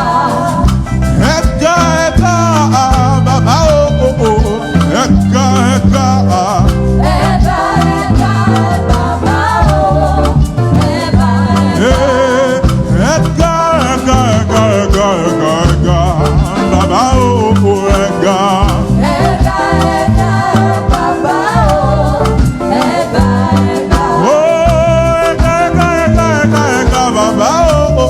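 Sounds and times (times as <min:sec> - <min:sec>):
bass guitar line: 0:00.0 - 0:28.0
drums keeping steady beat: 0:00.0 - 0:28.0
voices singing: 0:00.0 - 0:28.0.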